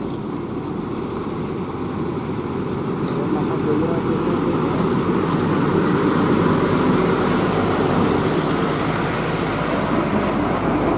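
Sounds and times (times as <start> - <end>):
diesel lorries driving past: 0.0 - 10.9.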